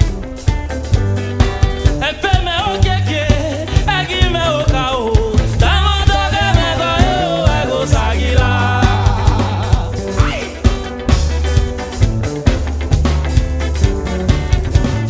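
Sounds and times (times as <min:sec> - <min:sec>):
bass line: 0:00.0 - 0:15.0
drum kit: 0:00.0 - 0:15.0
electric guitar: 0:00.0 - 0:15.0.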